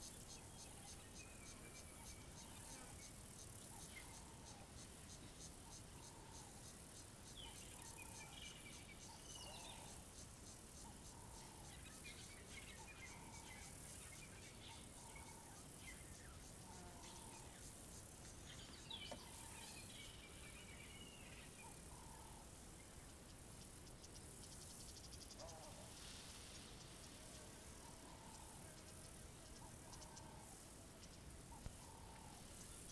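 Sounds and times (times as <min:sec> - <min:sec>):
insects buzzing: 0:00.0 - 0:32.9
rapid insect trill: 0:00.0 - 0:32.9.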